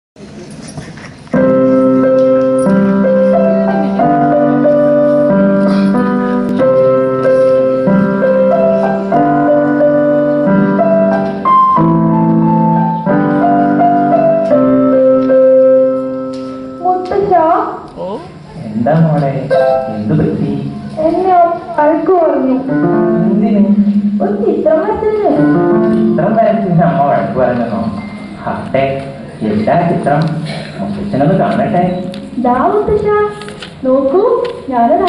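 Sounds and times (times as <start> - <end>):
slow instrumental keyboard music: 1.2 - 18.5, 19.2 - 31.1.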